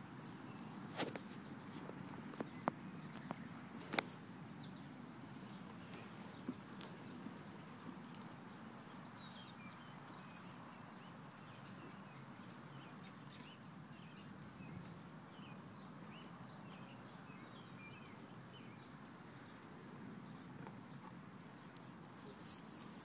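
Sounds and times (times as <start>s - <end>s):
small birds chirping: 0.1s - 23.0s.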